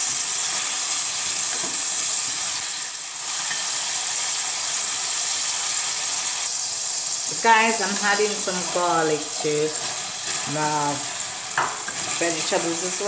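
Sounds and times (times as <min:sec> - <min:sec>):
vegetables sizzling in butter: 0:00.0 - 0:13.0.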